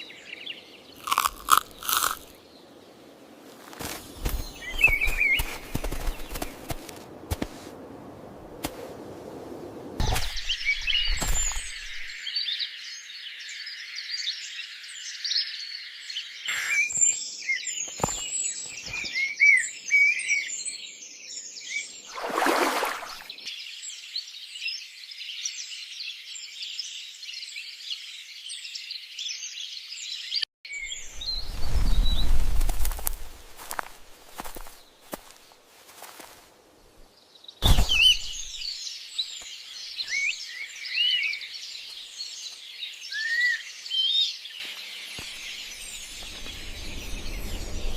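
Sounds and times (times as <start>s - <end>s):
small birds chirping: 0.0s - 7.4s, 10.0s - 47.9s.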